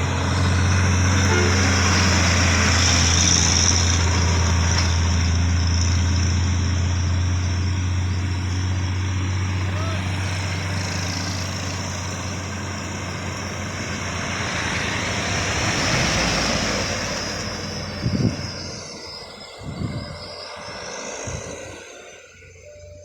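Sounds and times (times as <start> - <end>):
truck engine humming: 0.0 - 23.0.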